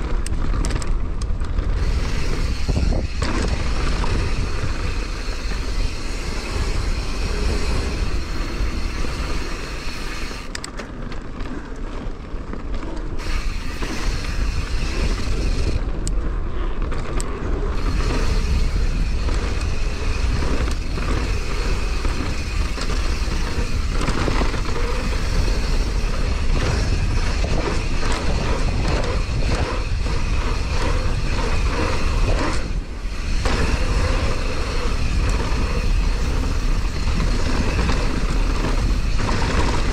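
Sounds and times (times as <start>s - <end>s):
bike rattles and knocks: 0.0s - 39.9s
bike tyre noise: 0.0s - 39.9s
wind rumble on microphone: 0.0s - 39.9s.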